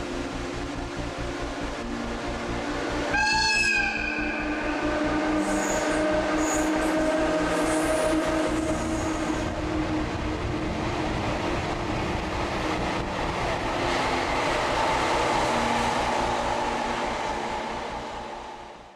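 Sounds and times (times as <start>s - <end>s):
train wheels rumbling on rails: 0.0s - 18.9s
train whining tone: 1.2s - 18.9s.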